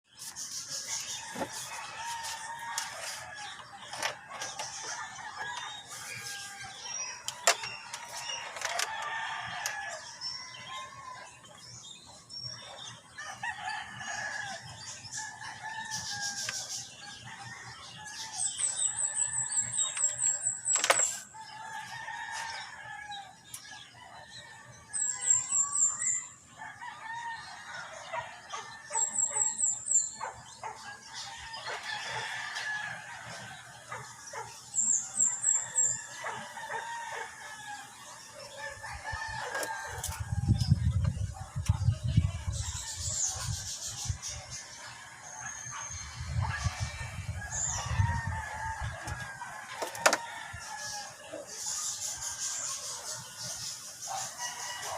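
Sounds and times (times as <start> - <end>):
chickens clucking and crowing: 0.1 - 54.9.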